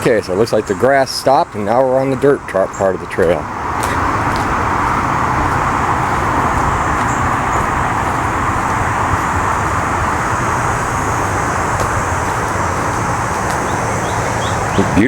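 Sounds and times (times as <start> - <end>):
freeway traffic roar: 0.0 - 15.0.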